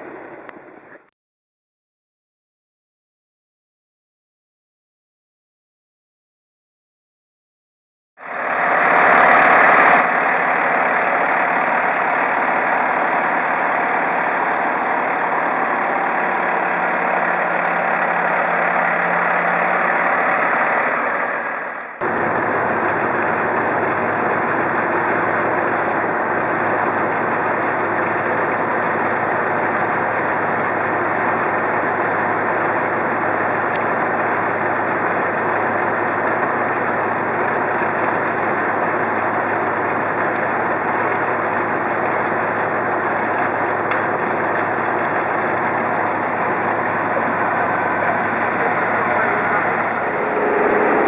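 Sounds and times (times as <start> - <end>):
heavy machinery engine running: 8.2 - 51.0.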